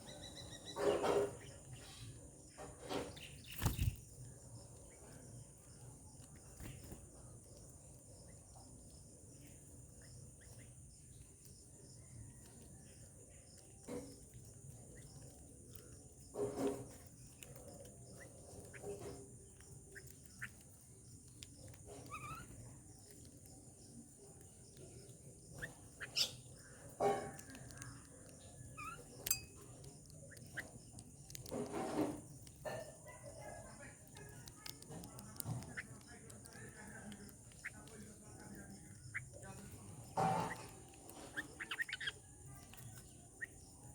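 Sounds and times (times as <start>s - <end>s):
bird chirps: 0.0s - 14.2s, 16.9s - 31.6s, 32.3s - 43.9s.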